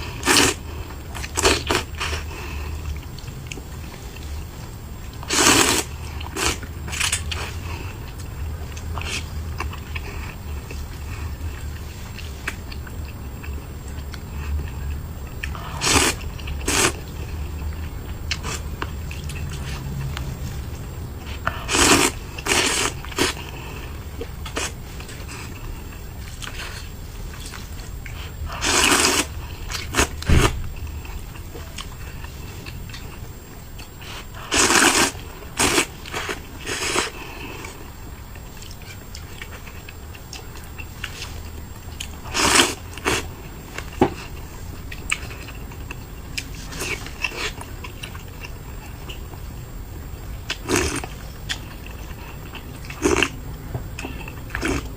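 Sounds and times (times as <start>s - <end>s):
chewing and mouth noises: 0.0s - 49.5s, 50.4s - 54.9s.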